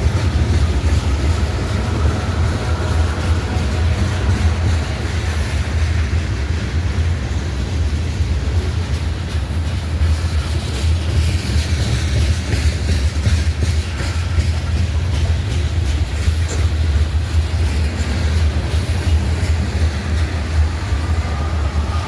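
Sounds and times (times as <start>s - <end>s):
freight train rolling past: 0.0s - 22.0s.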